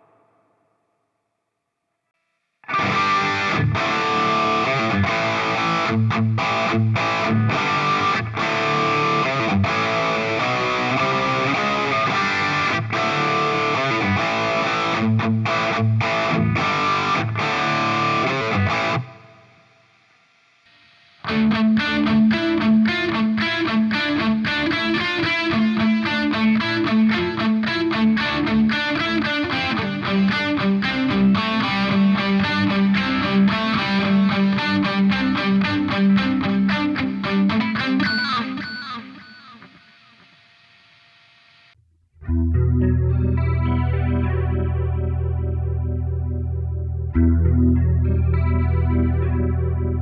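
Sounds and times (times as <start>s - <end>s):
distorted electric guitar: 0.0s - 0.8s, 2.6s - 50.0s.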